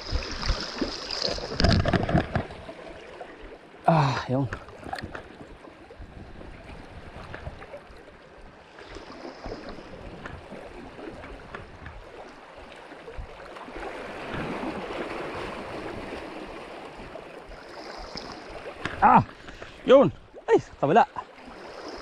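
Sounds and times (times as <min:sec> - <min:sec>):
sea water lapping at shore: 0:00.0 - 0:22.0.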